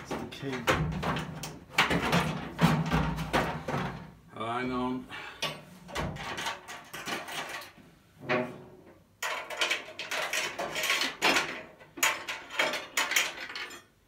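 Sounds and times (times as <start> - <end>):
metal tool chest clattering: 0.0 - 4.1, 5.4 - 8.6, 9.2 - 13.9.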